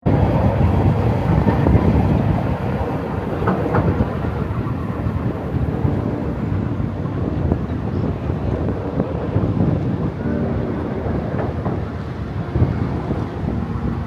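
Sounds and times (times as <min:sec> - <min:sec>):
monorail car rumbling: 0:00.0 - 0:14.0.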